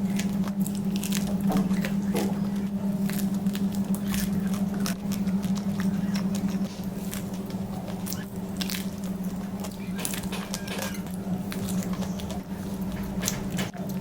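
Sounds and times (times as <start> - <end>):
chewing bread: 0.0 - 14.0.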